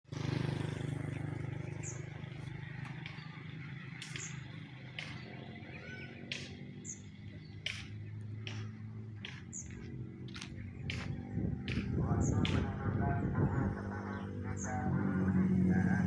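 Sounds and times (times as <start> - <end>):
bird chirping: 1.3 - 15.2.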